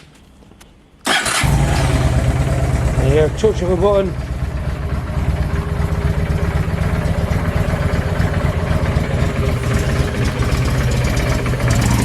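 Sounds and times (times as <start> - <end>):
motorcycle engine idling: 1.3 - 12.0.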